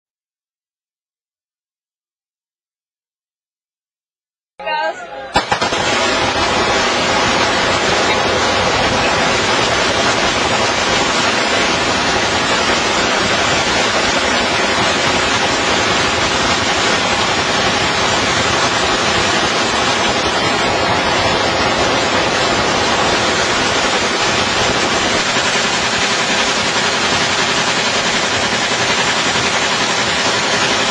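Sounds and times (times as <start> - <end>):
machine gun firing: 5.3 - 30.9.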